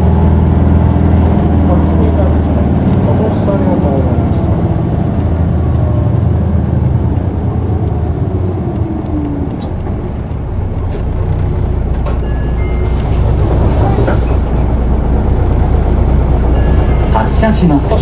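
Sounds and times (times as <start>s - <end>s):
bus engine with falling whine: 0.0s - 18.0s.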